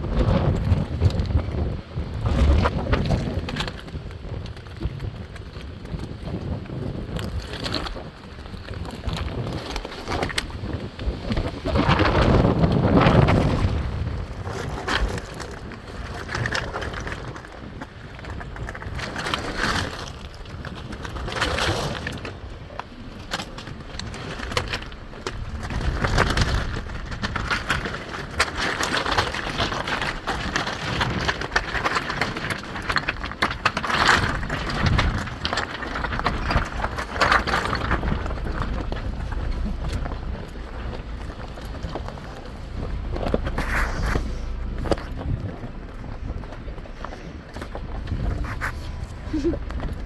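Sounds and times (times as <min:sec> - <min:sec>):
off-road vehicle rumble: 0:00.0 - 0:50.0
crunches knocks and rattles: 0:02.3 - 0:50.0.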